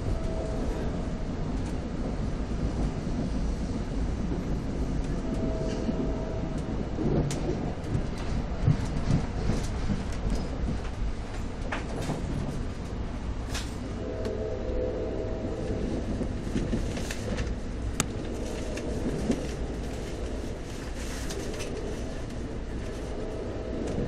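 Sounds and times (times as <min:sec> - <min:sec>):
rail clicks: 0:00.0 - 0:14.4, 0:15.4 - 0:24.0
train rumbling: 0:00.0 - 0:24.0.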